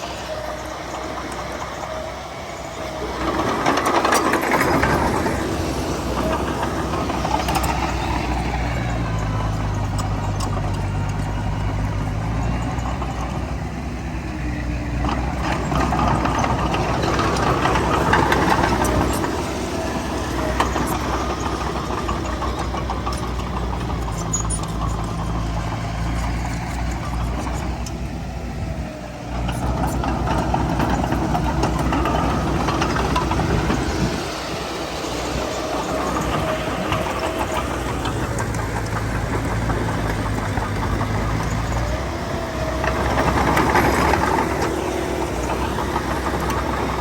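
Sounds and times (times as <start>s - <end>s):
heavy diesel machinery running: 0.0s - 47.0s
light clanking: 0.0s - 47.0s.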